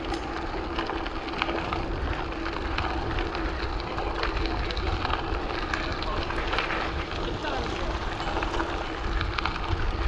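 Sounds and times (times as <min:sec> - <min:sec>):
bike rattles and clicks: 0:00.0 - 0:10.0
tyres crunching over gravel: 0:00.0 - 0:10.0
wind rumble on microphone: 0:00.0 - 0:10.0.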